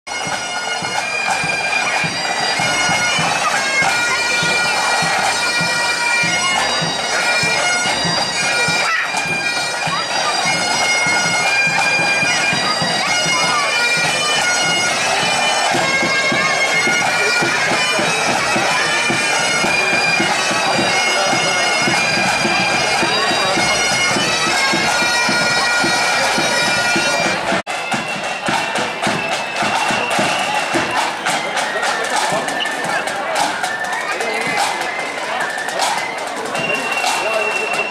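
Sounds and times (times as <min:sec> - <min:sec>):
bagpipes playing a marching tune: 0:00.1 - 0:37.9
snare and tenor drums beating: 0:00.1 - 0:37.9.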